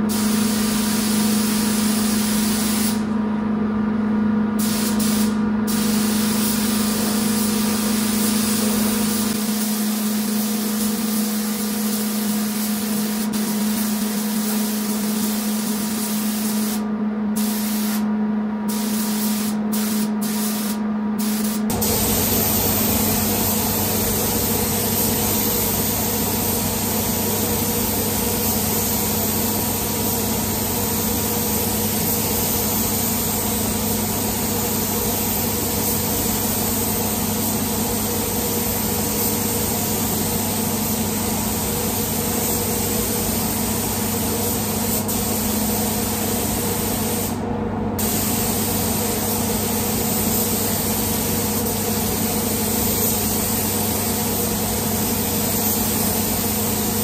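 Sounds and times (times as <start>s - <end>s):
steady low hum: 0.0s - 52.0s
spray gun hissing: 0.1s - 3.0s, 4.6s - 16.8s, 17.4s - 18.1s, 18.7s - 47.4s, 48.0s - 57.0s.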